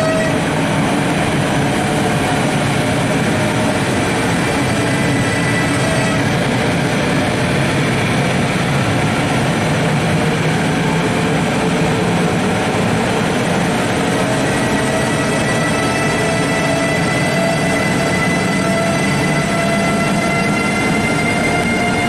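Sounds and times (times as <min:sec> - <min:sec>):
electric locomotive rolling past: 0:00.0 - 0:22.0
wheels rumbling on rails: 0:00.0 - 0:22.0.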